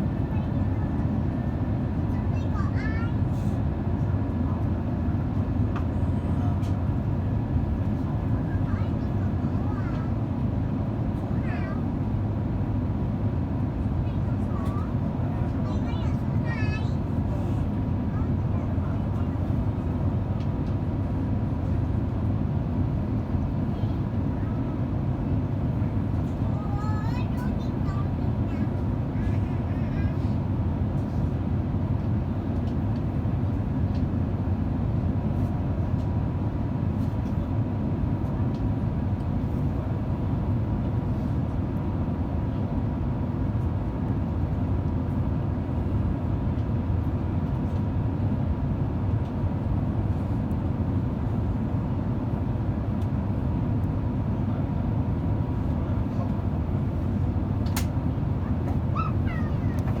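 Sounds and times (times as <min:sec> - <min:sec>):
airplane cabin rumble: 0:00.0 - 1:00.0.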